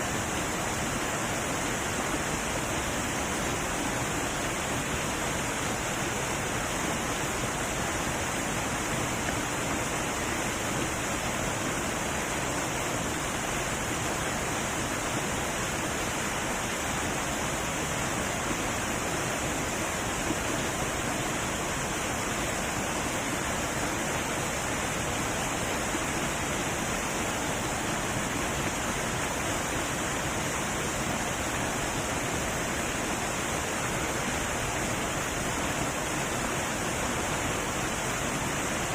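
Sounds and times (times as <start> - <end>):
heavy waterfall pouring: 0.0 - 38.9.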